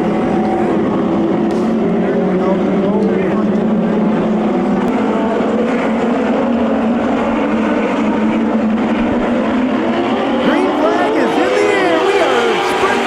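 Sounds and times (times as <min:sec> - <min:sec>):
racing motorcycle engines droning: 0:00.0 - 0:13.0.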